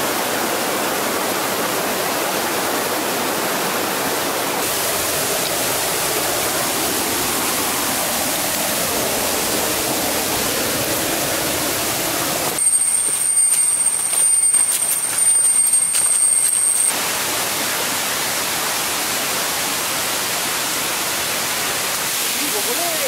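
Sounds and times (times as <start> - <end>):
stream flowing over stones: 0.0 - 23.0.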